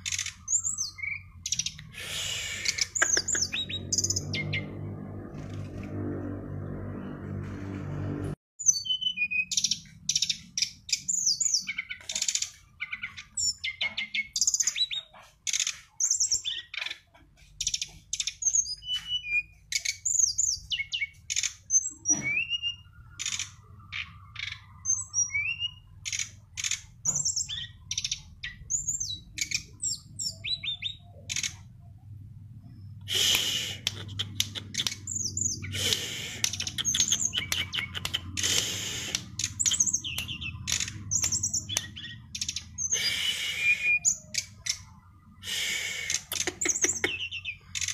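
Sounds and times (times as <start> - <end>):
songbird singing: 0.0 - 5.0, 8.6 - 47.9.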